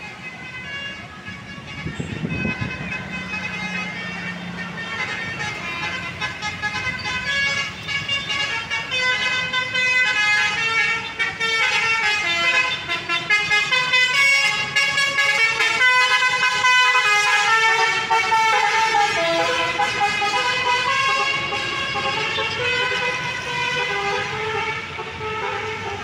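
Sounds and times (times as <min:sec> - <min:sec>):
bus horn playing melody: 0:00.0 - 0:26.0
road traffic: 0:00.0 - 0:26.0.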